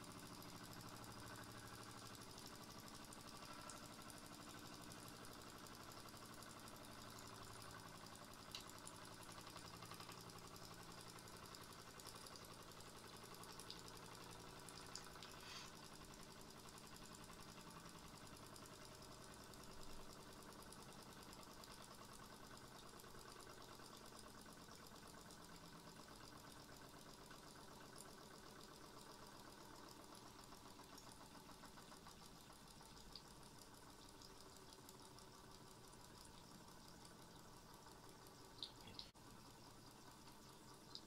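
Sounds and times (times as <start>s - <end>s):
model steam engine running: 0.0s - 41.0s.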